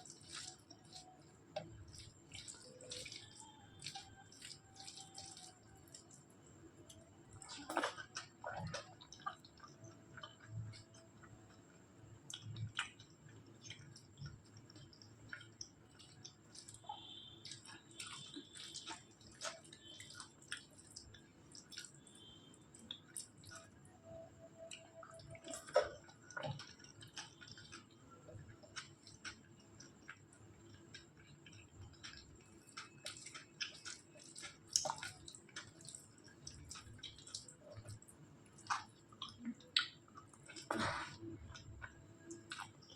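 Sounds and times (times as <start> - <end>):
wet chewing: 0.0 - 42.9.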